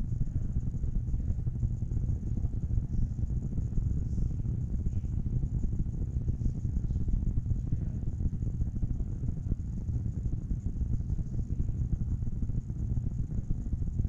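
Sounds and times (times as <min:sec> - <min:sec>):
faint high whine: 0:00.0 - 0:14.0
low room rumble: 0:00.0 - 0:14.0.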